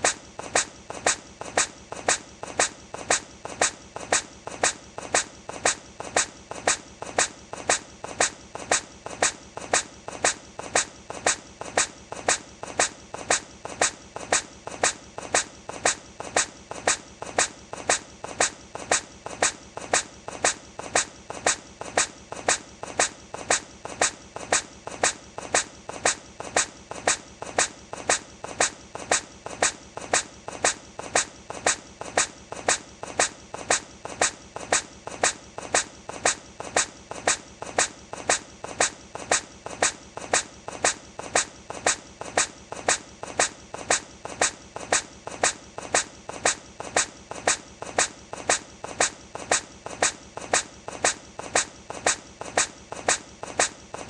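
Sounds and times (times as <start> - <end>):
hedgehog sneezing: 0.0 - 54.0.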